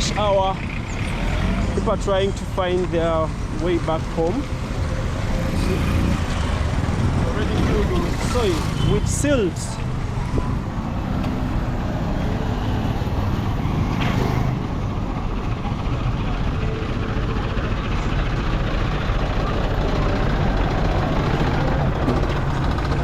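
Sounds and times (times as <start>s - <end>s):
road traffic engine and tyre noise: 0.0s - 23.0s.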